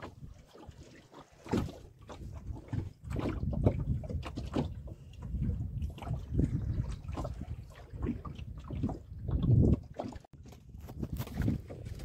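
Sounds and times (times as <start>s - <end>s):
water lapping at boat: 0.0s - 12.0s
wind buffeting microphone: 1.5s - 12.0s.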